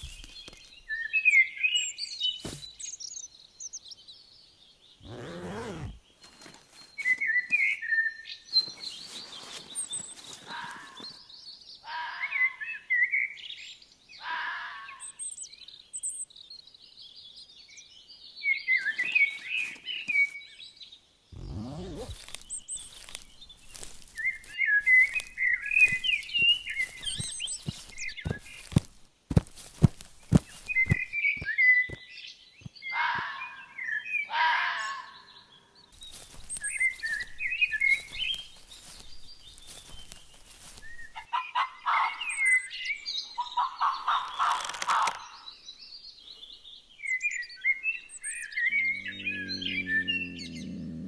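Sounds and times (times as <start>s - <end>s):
songbirds chirping and singing: 0.0s - 51.0s.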